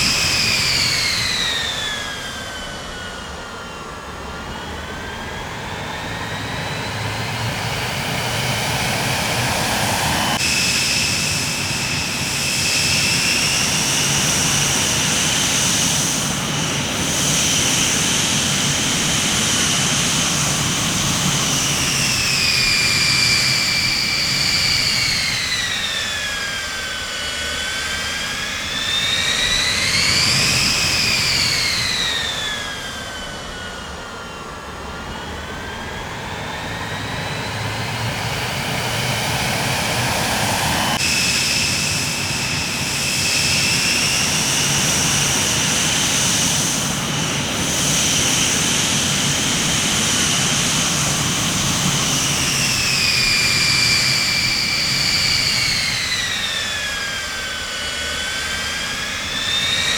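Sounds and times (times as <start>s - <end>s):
high turbine whine: 0.0s - 59.9s
jet engine roar: 0.0s - 59.9s.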